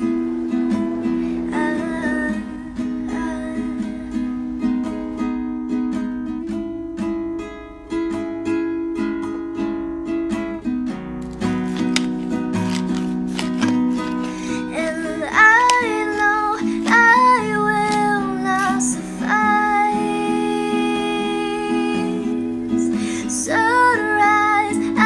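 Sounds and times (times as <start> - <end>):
plucked acoustic string melody: 0.0 - 25.0.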